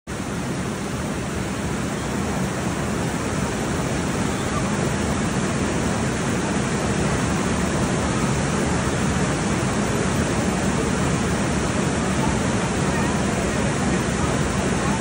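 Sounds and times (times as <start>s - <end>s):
water rushing down a flume: 0.1s - 15.0s.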